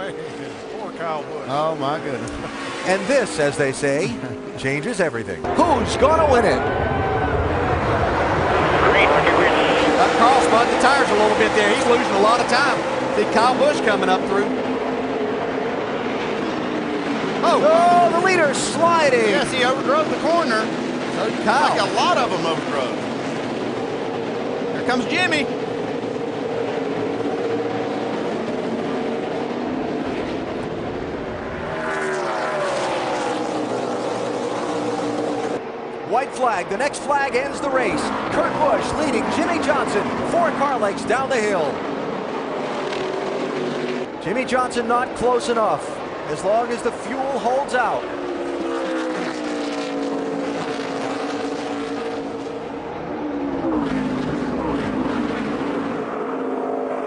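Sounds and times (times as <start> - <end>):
engine pitch sweeping up and down: 0.0 - 57.0
race car engines droning: 0.0 - 57.0.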